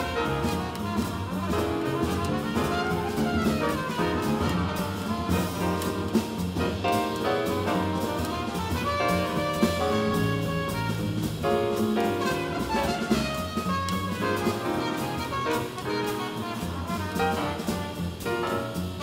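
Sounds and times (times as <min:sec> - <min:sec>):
double bass: 0:00.0 - 0:19.0
drum kit: 0:00.0 - 0:19.0
piano: 0:00.0 - 0:19.0
trumpet melody: 0:00.0 - 0:19.0.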